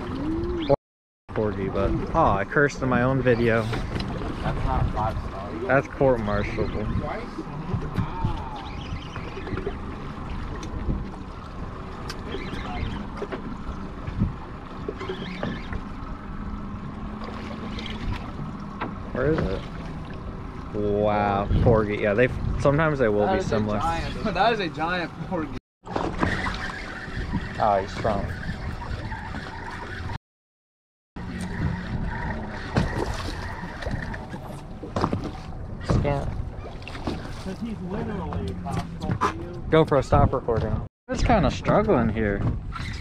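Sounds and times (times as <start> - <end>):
wind rumbling on microphone: 0.0 - 24.4, 25.9 - 30.2, 31.2 - 43.0
sea water around boat hull: 0.0 - 30.2, 31.2 - 43.0.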